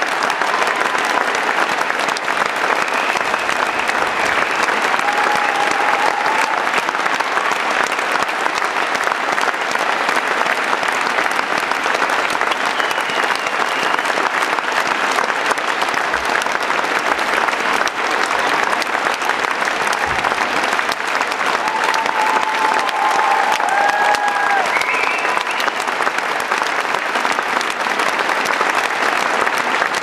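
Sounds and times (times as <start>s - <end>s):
audience clapping: 0.0s - 30.0s.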